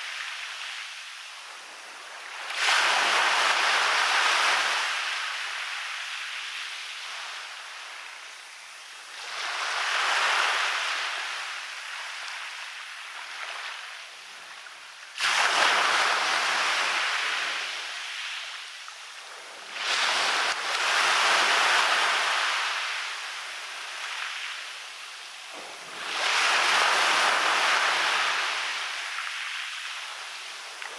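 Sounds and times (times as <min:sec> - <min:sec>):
waves breaking on a beach: 0:00.0 - 0:30.9.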